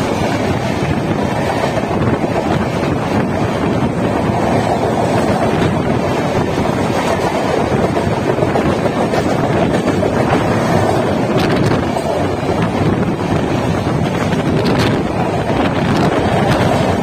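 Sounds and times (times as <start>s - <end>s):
passing train coaches rushing: 0.0s - 17.0s
wind buffeting the microphone: 0.0s - 17.0s.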